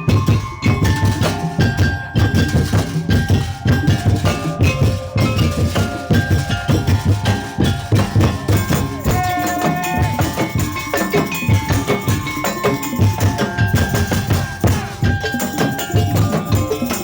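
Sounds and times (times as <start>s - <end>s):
drums and slit-drum percussion: 0.0s - 17.0s
held melodic notes: 0.0s - 17.0s.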